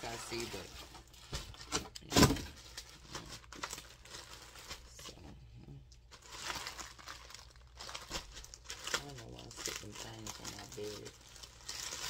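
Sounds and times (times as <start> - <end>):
plastic bag crinkling: 0.0 - 5.2, 6.1 - 12.0.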